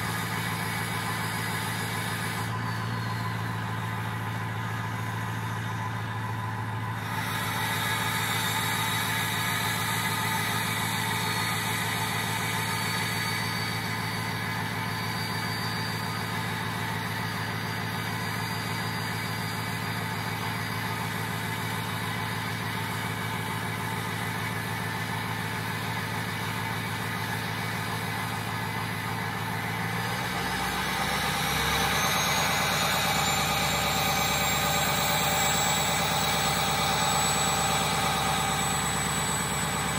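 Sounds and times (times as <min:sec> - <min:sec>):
thin high whine: 0:00.0 - 0:21.1, 0:27.2 - 0:39.9
diesel engine idling: 0:00.0 - 0:39.9.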